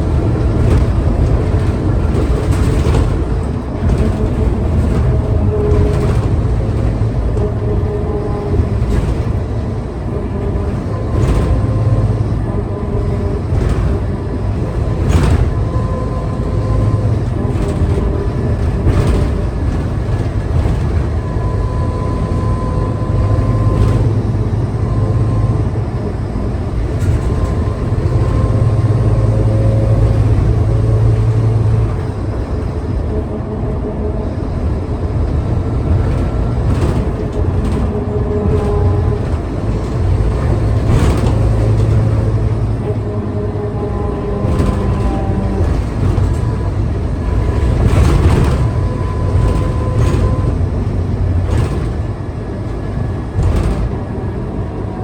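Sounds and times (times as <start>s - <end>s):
knocks and rattles: 0.0s - 24.4s, 34.6s - 54.3s
bus diesel engine running: 0.0s - 55.0s
engine whine: 0.0s - 55.0s.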